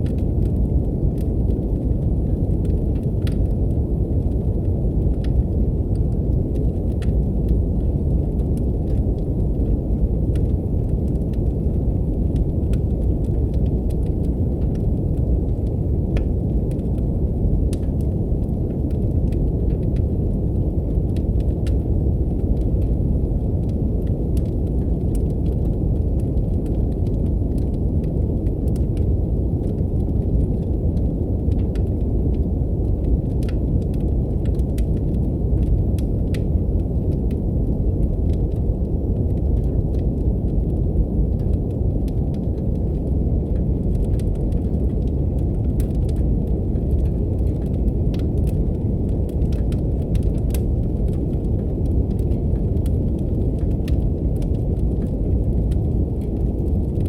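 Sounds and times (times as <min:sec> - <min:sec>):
brown noise rumble: 0:00.0 - 0:57.0
wood fire crackling: 0:00.0 - 0:57.0.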